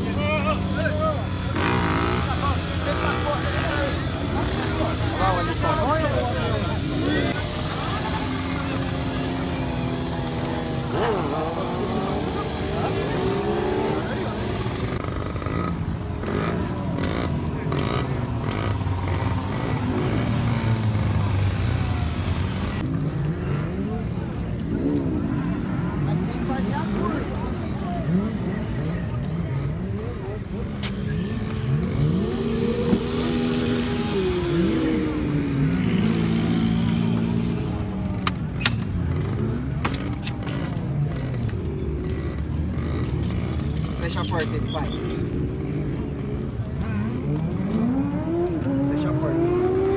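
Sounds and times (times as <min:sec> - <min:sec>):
motorcycle engines revving: 0:00.0 - 0:49.9.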